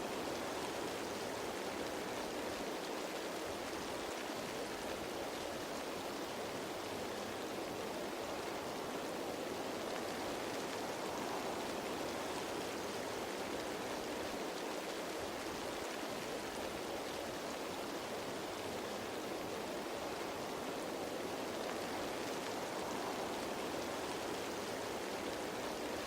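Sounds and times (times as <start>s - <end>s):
rain falling on leaves: 0.0s - 26.0s.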